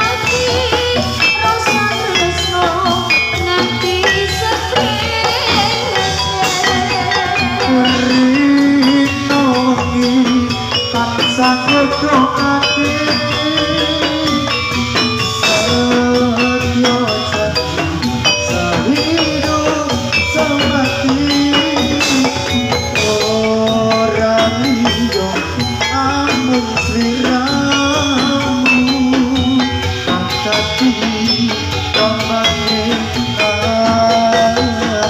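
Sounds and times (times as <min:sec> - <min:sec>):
drumming: 0:00.0 - 0:35.0
metallophones ringing: 0:00.0 - 0:35.0
person singing: 0:00.0 - 0:35.0.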